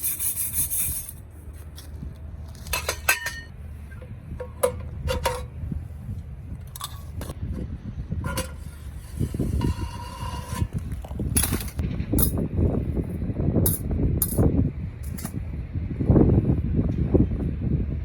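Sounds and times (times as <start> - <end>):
wind buffeting microphone: 0.8 - 18.0.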